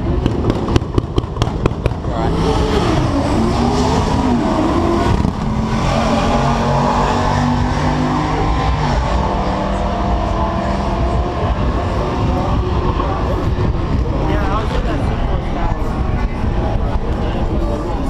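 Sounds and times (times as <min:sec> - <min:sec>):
car engine running loudly: 0:00.0 - 0:18.0
racing event noise: 0:00.0 - 0:18.0.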